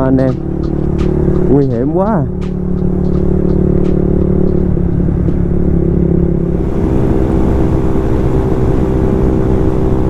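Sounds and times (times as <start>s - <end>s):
motorcycle engine running: 0.0s - 10.0s
wind noise: 0.0s - 10.0s.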